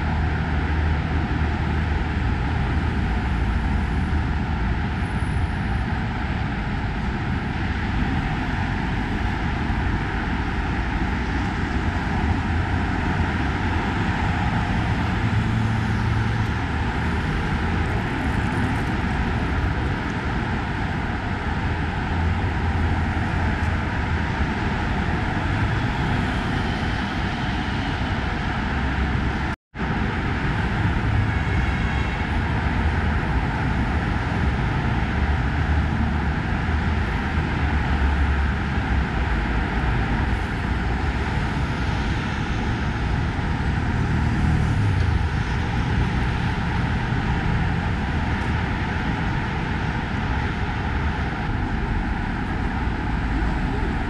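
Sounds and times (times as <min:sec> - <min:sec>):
heavy traffic passing: 0:00.0 - 0:54.0.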